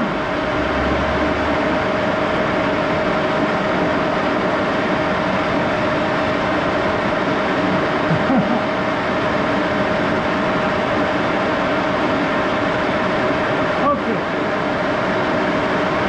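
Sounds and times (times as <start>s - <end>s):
lathe running: 0.0s - 16.0s
lathe whine: 0.0s - 16.0s.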